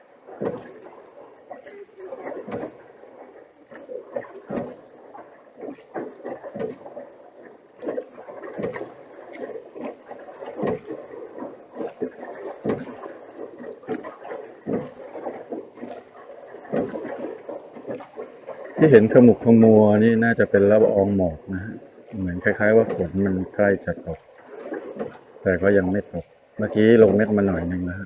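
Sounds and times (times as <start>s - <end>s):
oars knocking and splashing: 0.0s - 28.0s.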